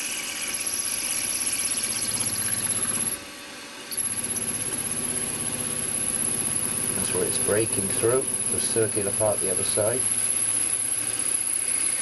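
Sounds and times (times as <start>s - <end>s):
drill motor whine: 0.0s - 3.2s, 3.9s - 12.0s.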